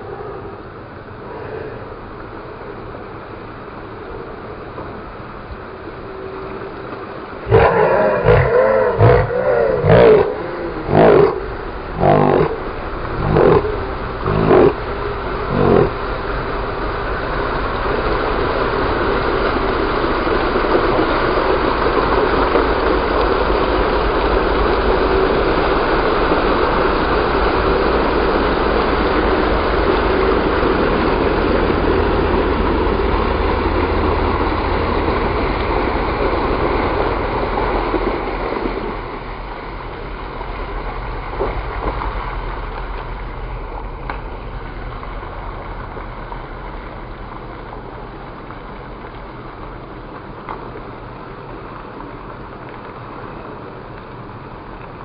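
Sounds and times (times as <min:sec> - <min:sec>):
water churning and splashing: 0:00.0 - 0:55.0
car engine running: 0:02.5 - 0:54.8.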